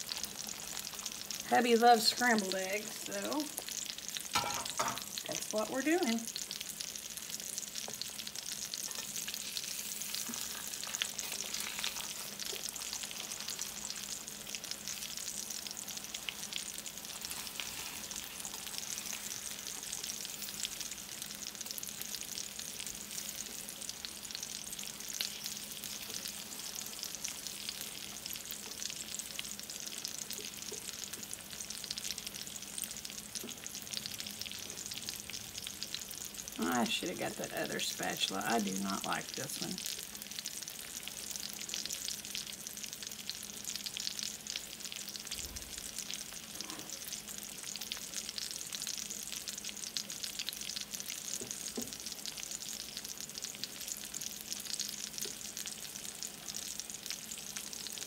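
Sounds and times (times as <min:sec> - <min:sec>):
eggs sizzling in a skillet: 0:00.0 - 0:58.0.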